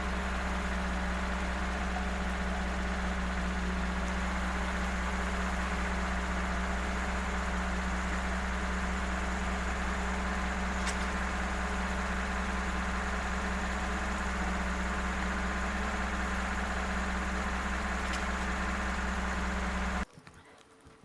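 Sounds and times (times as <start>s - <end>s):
motor droning: 0.0s - 20.0s.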